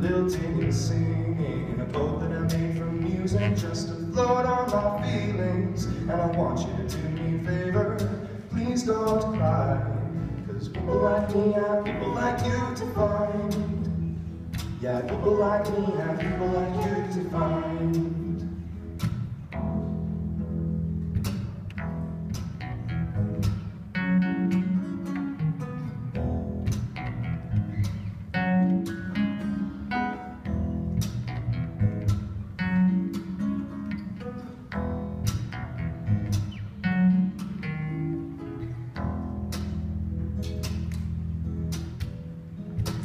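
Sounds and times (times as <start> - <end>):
bass guitar notes: 0.0 - 43.0
plucked acoustic guitar: 0.0 - 43.0.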